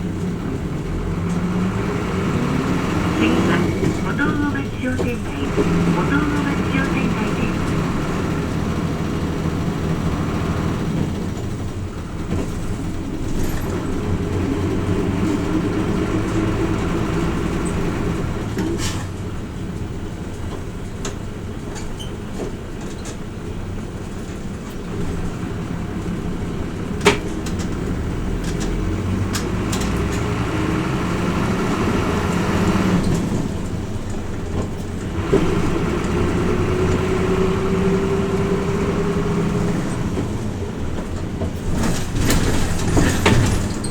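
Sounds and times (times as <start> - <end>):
bus diesel engine accelerating: 0.0 - 43.9.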